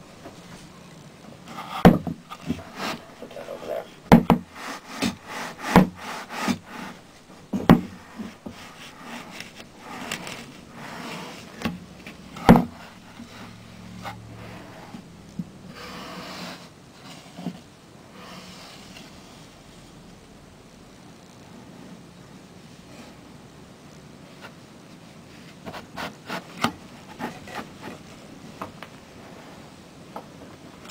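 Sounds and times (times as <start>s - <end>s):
soft scraping and rubbing: 0.0s - 20.2s, 24.2s - 29.9s.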